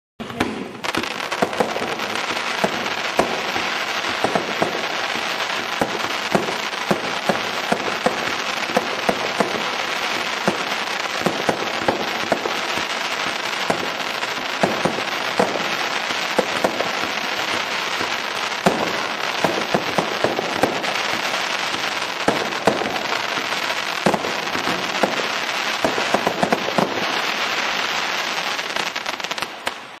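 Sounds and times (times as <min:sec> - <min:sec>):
fireworks crackling: 0:00.2 - 0:30.0
fireworks sharp reports: 0:00.2 - 0:30.0.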